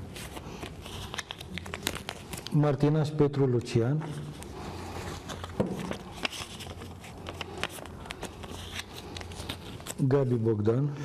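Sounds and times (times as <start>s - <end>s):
paper rustling and crackling: 0.0s - 2.6s, 3.6s - 10.1s.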